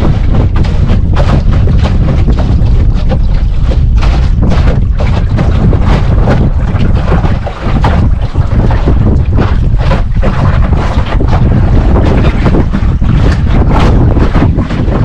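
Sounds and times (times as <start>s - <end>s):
choppy water against boat hull: 0.0s - 15.0s
wind buffeting microphone: 0.0s - 15.0s.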